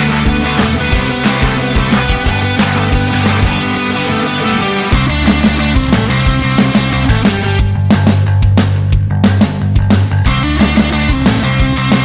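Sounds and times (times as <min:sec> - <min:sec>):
instrumental music with drum beat: 0:00.0 - 0:04.3, 0:04.9 - 0:12.0.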